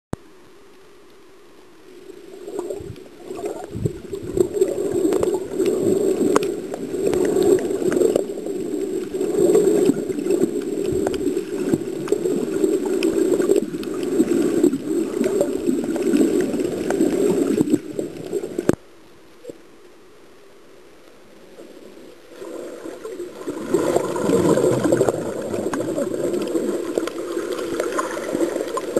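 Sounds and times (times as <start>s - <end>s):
faint hiss: 0.2s - 28.9s
muffled underwater rush of water: 1.7s - 19.6s, 21.3s - 28.9s
underwater clicks and crackles: 2.2s - 19.6s, 21.0s - 28.9s.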